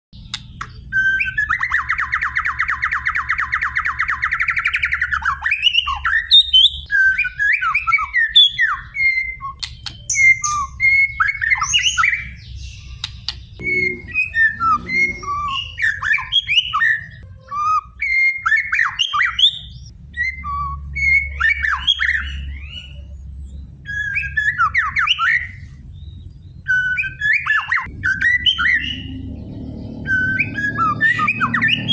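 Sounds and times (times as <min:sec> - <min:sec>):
bird singing trills and whistles: 0:00.2 - 0:31.9.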